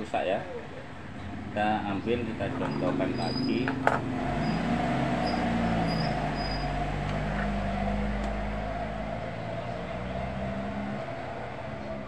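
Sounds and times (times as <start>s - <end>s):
low engine-like hum: 0.4s - 12.0s.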